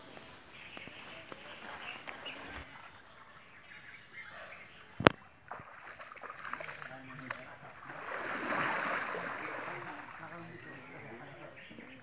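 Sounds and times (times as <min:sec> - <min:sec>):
water sloshing in a stream: 0:01.1 - 0:11.5.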